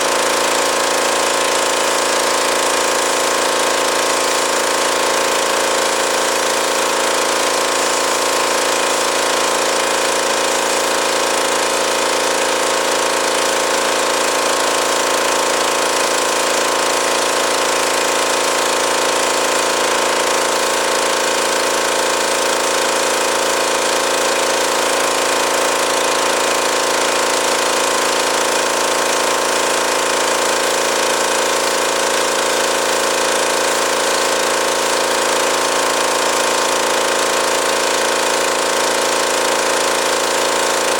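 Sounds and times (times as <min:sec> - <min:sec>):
pressure washer running: 0:00.0 - 0:40.9.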